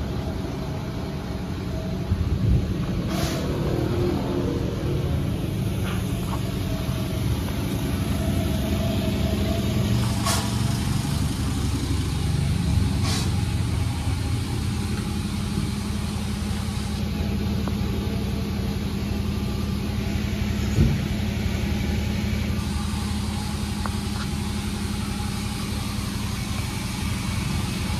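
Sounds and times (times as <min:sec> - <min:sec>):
sawmill engine drone: 0:00.0 - 0:27.9.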